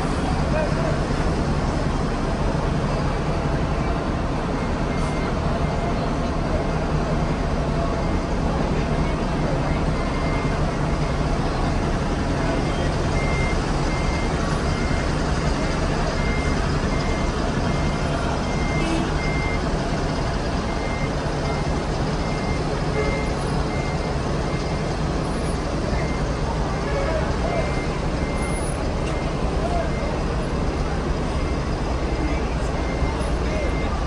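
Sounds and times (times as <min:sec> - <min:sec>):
coach engine running low: 0:00.0 - 0:34.0
reversing alarm beeps: 0:04.5 - 0:34.0.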